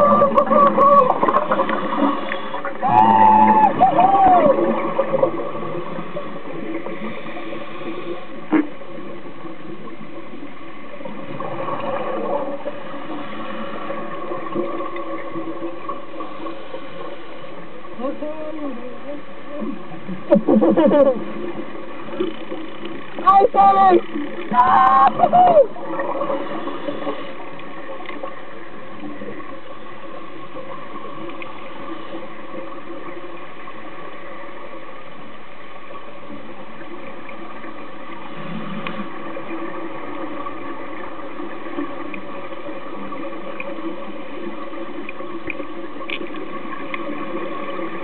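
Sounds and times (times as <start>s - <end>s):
muffled underwater hiss: 0.0s - 48.0s.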